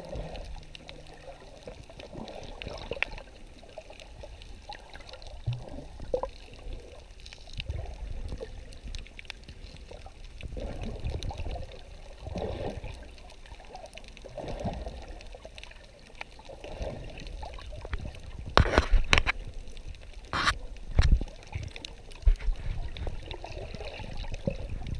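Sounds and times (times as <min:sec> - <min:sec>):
underwater sloshing and gurgling: 0:00.0 - 0:24.9.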